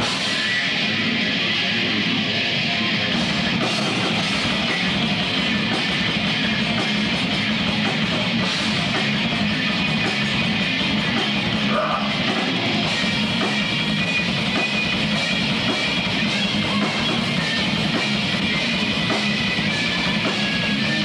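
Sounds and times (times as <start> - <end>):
distorted electric guitar: 0.0 - 21.0
drum kit: 0.0 - 21.0.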